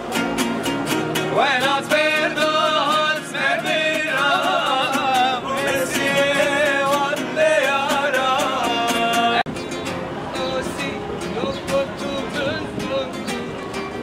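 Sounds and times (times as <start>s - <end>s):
strummed acoustic guitars: 0.0s - 14.0s
men singing: 1.2s - 9.5s, 10.3s - 13.4s.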